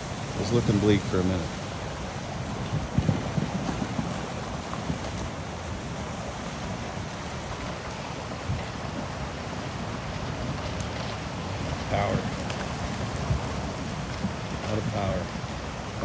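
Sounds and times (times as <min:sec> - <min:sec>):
fast water rushing: 0:00.0 - 0:16.0.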